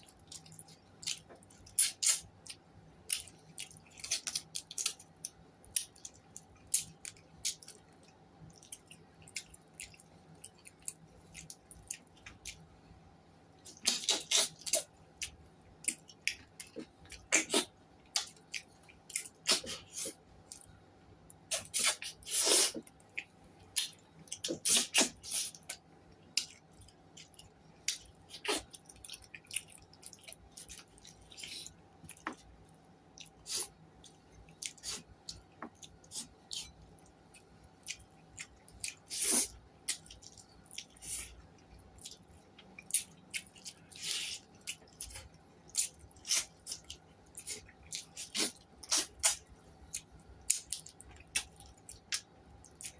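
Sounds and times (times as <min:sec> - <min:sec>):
person chewing with mouth smacks: 0:00.1 - 0:12.6, 0:13.7 - 0:20.7, 0:21.3 - 0:32.5, 0:33.2 - 0:52.9.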